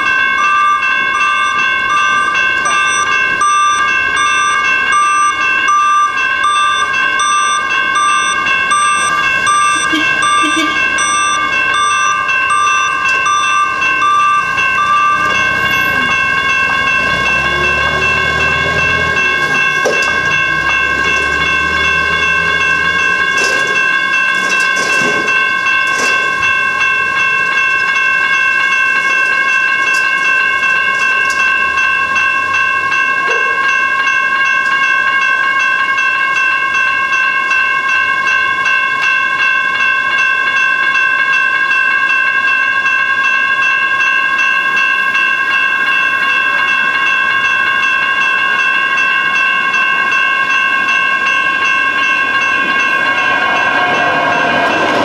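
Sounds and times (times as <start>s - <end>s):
railroad crossing bell ringing: 0.0s - 55.0s.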